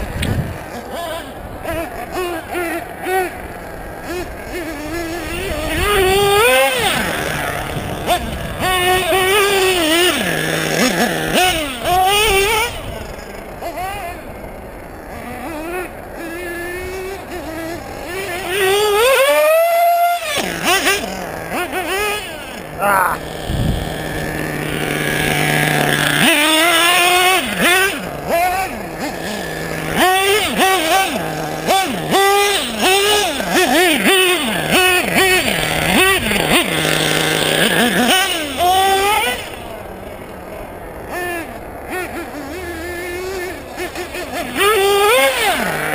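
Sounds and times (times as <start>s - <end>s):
model car nitro engine revving: 0.0s - 45.9s.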